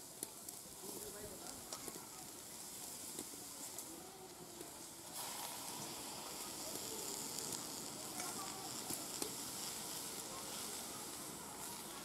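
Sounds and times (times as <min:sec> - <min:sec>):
cabbage sizzling in a wok: 0:00.0 - 0:12.0.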